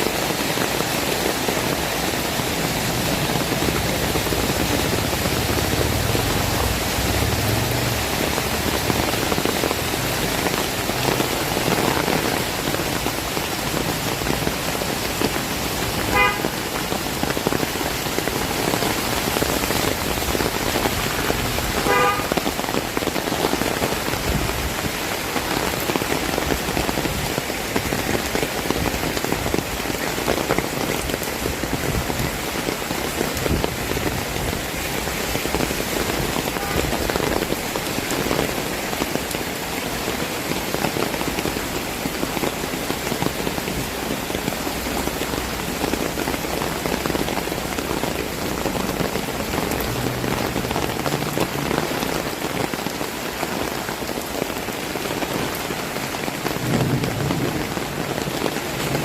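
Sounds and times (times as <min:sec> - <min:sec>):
heavy rain pattering: 0:00.0 - 0:59.0.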